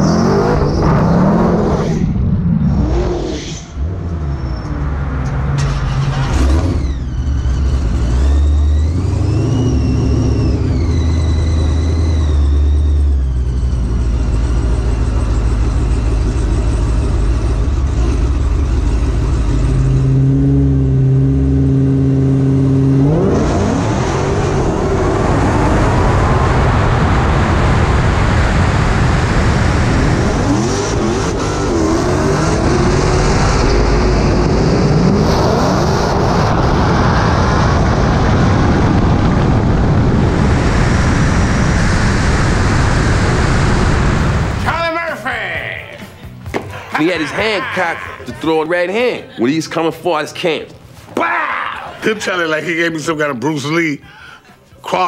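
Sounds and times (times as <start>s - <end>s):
engine idling and revving: 0.0s - 44.8s
supercharger whine: 0.0s - 45.0s.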